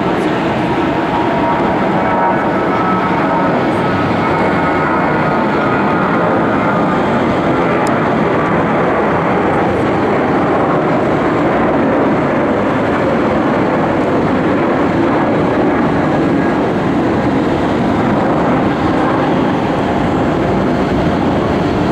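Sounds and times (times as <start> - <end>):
jet engines at climb thrust: 0.0 - 21.9.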